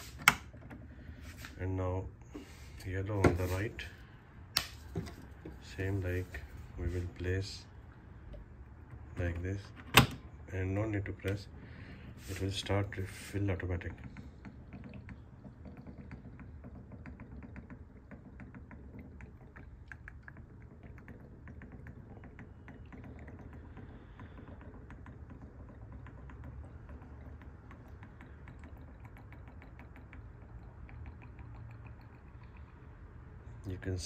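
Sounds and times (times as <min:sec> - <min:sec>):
faint ticking and clicking: 0:05.3 - 0:34.0.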